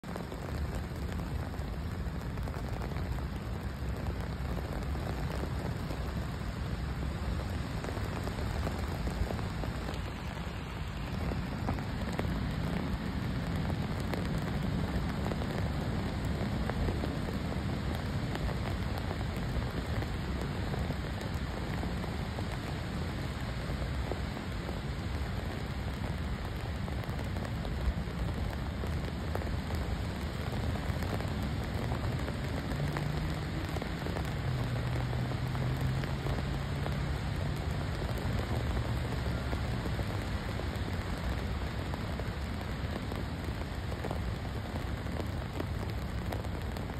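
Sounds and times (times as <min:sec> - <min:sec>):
rain on a paved path: 0:00.0 - 0:46.9.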